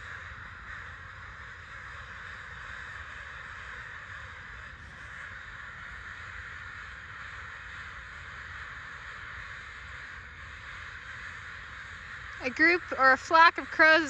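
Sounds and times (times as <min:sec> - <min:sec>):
crows cawing: 0:00.0 - 0:14.0.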